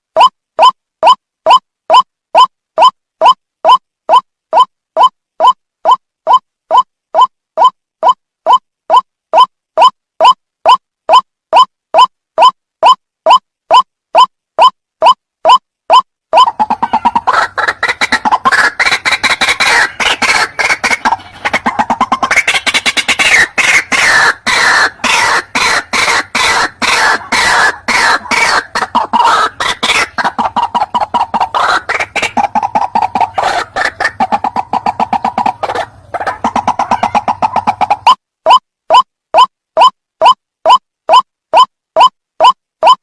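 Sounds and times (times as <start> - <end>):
bird calling repeated notes: 0.1 - 43.0.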